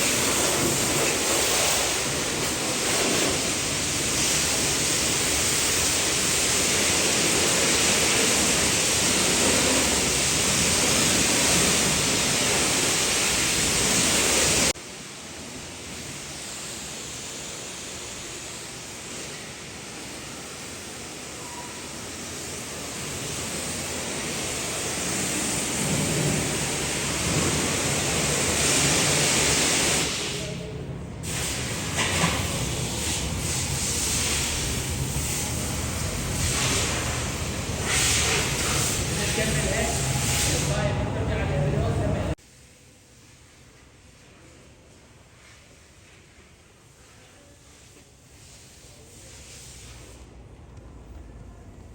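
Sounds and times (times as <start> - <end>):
pressure washer spraying water: 0.0 - 42.8.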